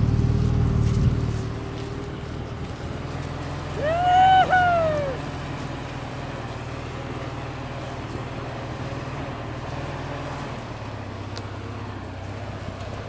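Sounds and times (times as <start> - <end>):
jeep engine running: 0.0 - 13.0.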